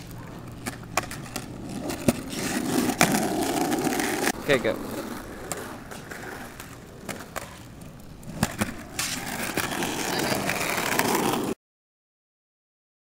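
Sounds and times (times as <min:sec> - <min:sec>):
skateboard clacks: 0:00.0 - 0:11.6
skateboard rolling on concrete: 0:00.0 - 0:11.6.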